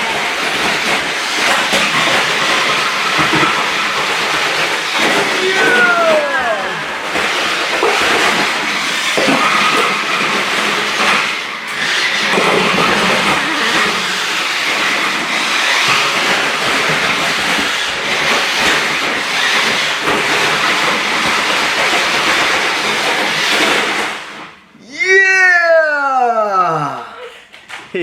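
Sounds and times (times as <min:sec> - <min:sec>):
toy car motor whirring: 0:00.0 - 0:24.2.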